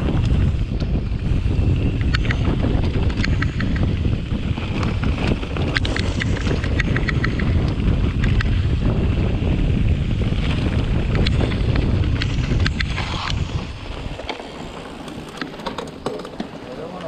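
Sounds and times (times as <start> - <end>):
bike clicks and rattles: 0.0 - 17.0
bike tyres rumbling on rocky trail: 0.0 - 17.0
wind buffeting microphone: 0.0 - 17.0.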